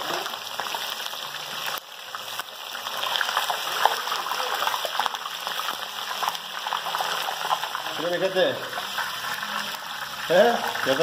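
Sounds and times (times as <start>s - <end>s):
fish deep-frying in hot oil: 0.0s - 11.0s.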